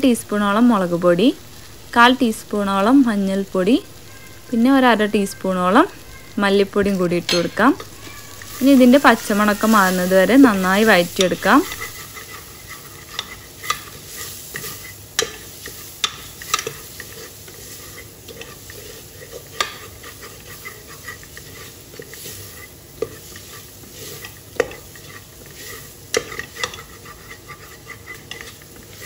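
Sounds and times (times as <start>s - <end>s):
masala sizzling in oil: 0.0s - 29.0s
spatula scraping and knocking pot: 5.5s - 29.0s.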